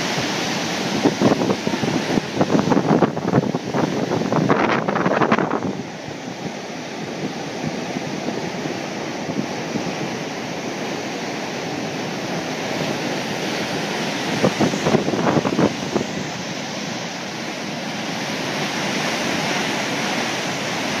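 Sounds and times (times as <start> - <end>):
water rushing through spillway: 0.0 - 21.0
wind buffeting microphone: 0.0 - 21.0.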